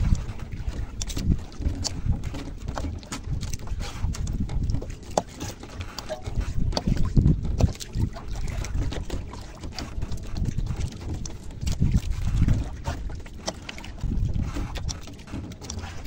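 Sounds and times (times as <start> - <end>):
water moving around boat: 0.0 - 16.0
wind rumble on microphone: 0.0 - 16.0.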